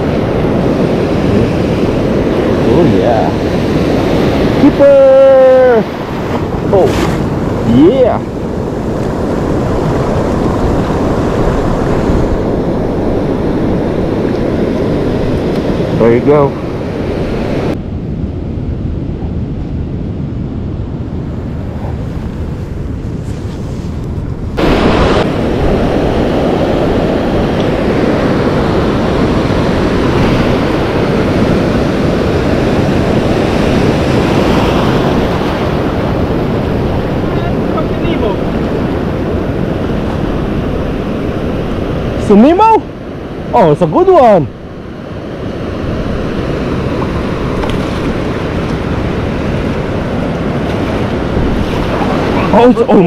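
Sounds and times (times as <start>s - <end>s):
surf breaking on beach: 0.0s - 17.8s, 21.2s - 53.0s
wind buffeting microphone: 0.0s - 53.0s.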